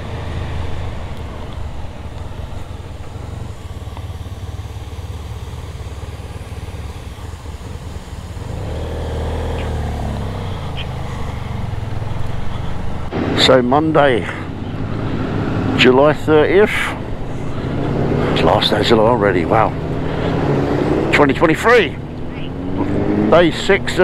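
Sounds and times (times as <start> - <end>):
motorcycle engines humming: 0.0 - 24.0
road and wind noise: 0.0 - 24.0.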